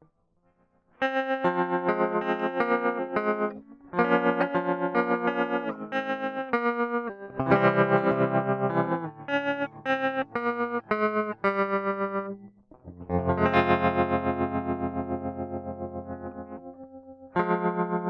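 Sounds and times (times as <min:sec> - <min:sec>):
electric guitar through effects: 0:00.9 - 0:18.0.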